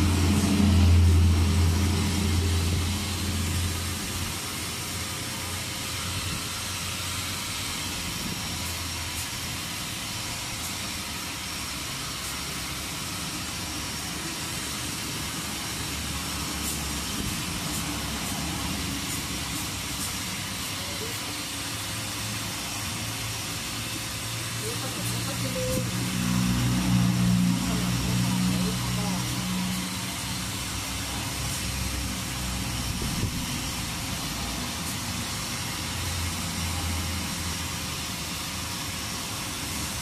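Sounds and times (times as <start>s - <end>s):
even hiss: 0.0s - 40.0s.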